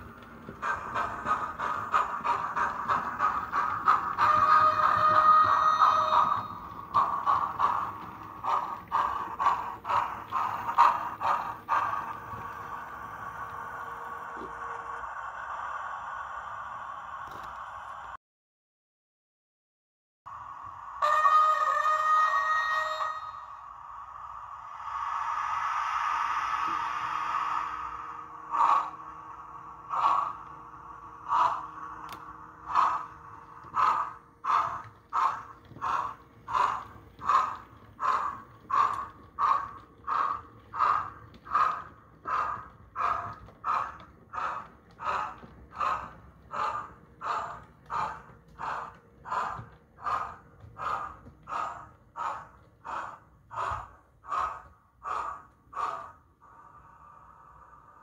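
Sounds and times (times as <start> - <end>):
steam locomotive exhaust chuffs: 0.0 - 18.2, 20.3 - 58.0.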